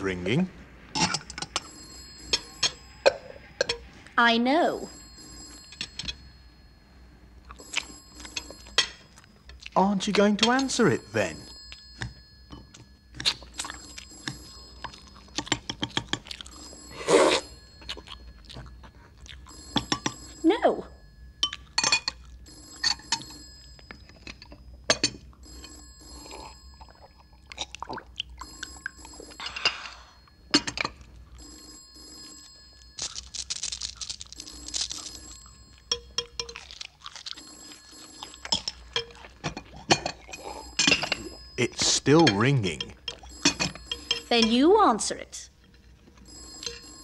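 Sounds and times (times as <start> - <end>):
telephone bell ringing: 1.3 - 9.4, 10.2 - 15.4, 16.4 - 21.4, 22.4 - 27.4, 28.4 - 30.5, 31.1 - 36.4, 37.3 - 39.5, 40.1 - 47.0.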